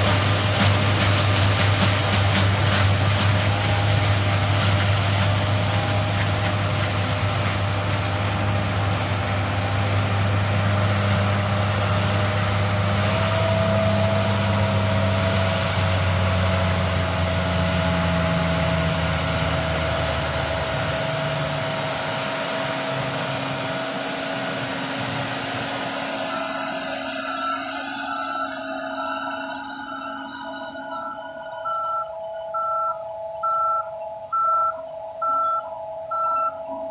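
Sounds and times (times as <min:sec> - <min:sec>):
diesel engine drone: 0:00.0 - 0:36.9
mechanical whine: 0:00.0 - 0:36.9.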